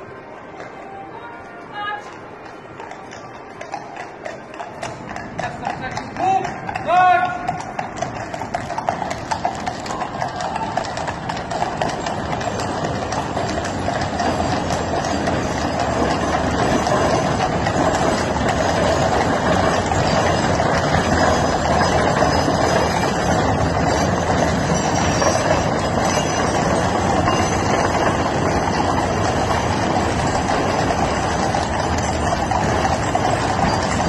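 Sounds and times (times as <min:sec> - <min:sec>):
horses' hooves clip-clopping on road: 0:01.9 - 0:34.0
carriage wheels rumbling: 0:02.4 - 0:34.0.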